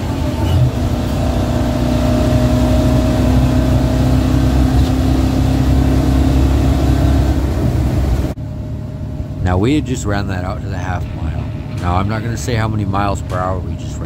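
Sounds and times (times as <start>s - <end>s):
pickup truck engine pulling: 0.0s - 14.0s
road and wind noise: 0.0s - 14.0s.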